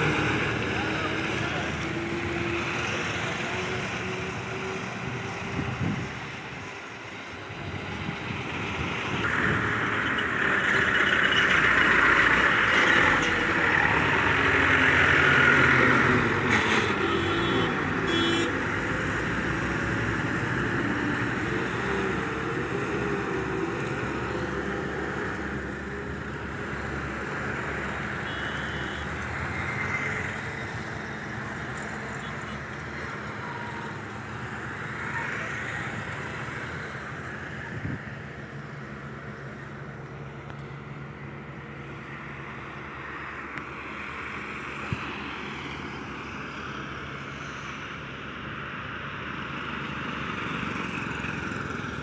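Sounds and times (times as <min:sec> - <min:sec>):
highway traffic passing: 0:00.0 - 0:52.0.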